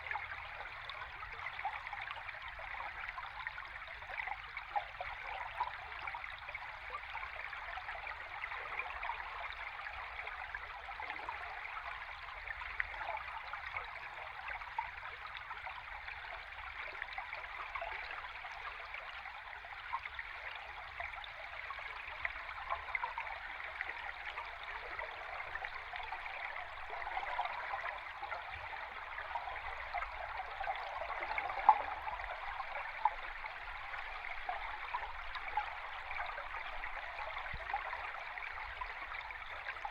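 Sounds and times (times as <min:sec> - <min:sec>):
stream water underwater bubbling: 0:00.0 - 0:39.9.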